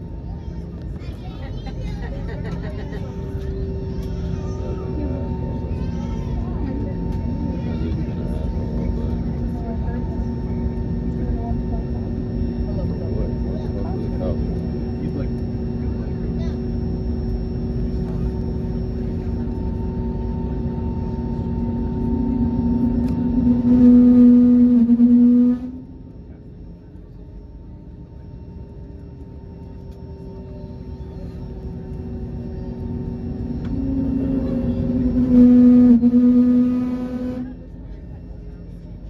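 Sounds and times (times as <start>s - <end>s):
airliner cabin rumble: 0.0s - 39.0s
droning tone: 3.1s - 39.0s.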